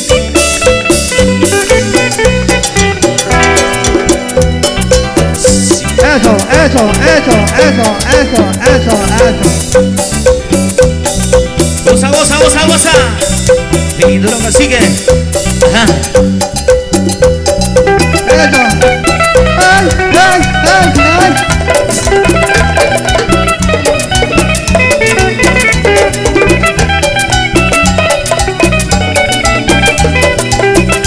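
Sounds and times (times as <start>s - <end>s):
bending lead melody: 0.0s - 31.0s
pulsing bass: 0.0s - 31.0s
timbales and percussion beat: 0.0s - 31.0s.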